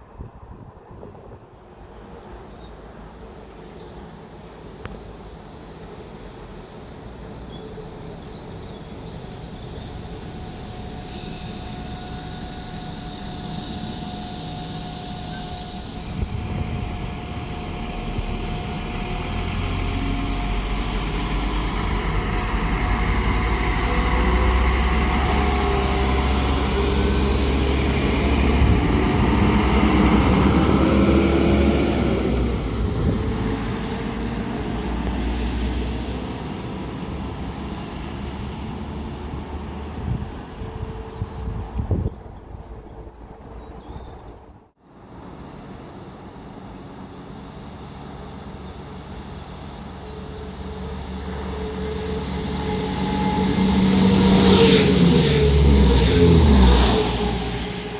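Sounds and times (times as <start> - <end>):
diesel train passing: 0.0 - 57.9.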